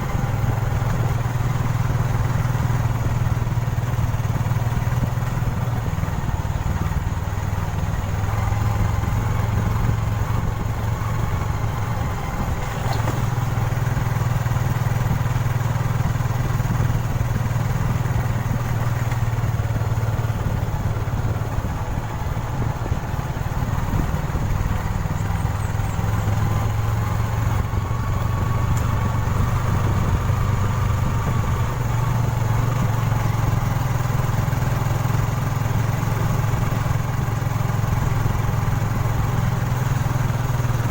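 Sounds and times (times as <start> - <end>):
small motorcycle engine running: 0.0 - 40.9.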